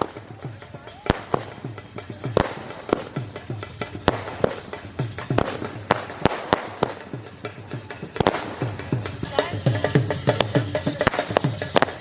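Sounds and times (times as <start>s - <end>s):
fireworks banging: 0.0s - 12.0s
music with low beat: 0.0s - 12.0s.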